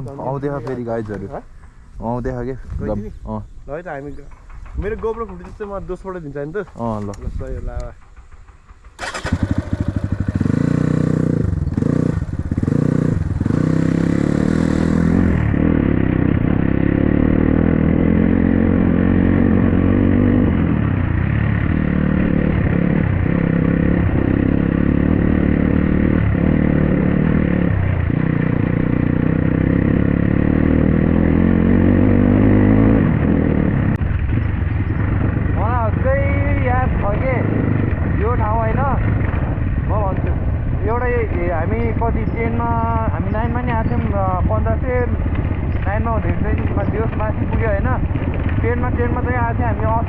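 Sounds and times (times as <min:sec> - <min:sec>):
dirt bike engine running: 0:04.2 - 0:50.0.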